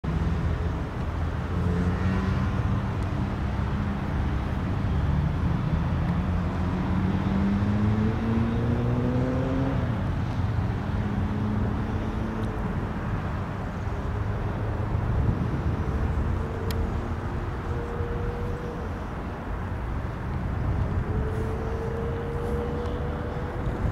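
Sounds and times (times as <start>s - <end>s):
low traffic rumble: 0.0s - 23.9s
vehicle engine rising: 0.4s - 23.9s.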